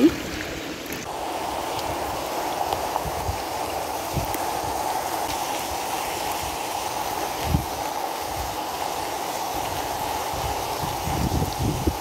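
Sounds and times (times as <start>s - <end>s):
rain on concrete and leaves: 0.0s - 12.0s.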